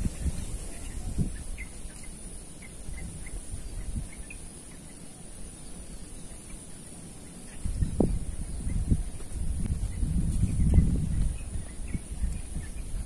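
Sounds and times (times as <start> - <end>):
wind rumble on microphone: 0.0 - 5.0, 7.3 - 13.0
high insect drone: 0.0 - 13.0.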